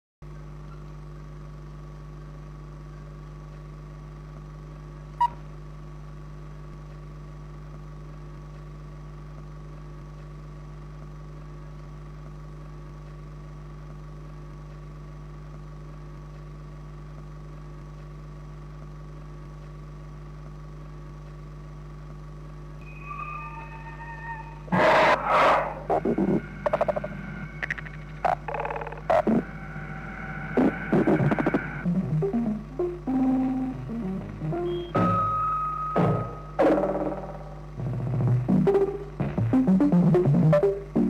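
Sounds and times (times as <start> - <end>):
film soundtrack hum and hiss: 0.3 - 41.0.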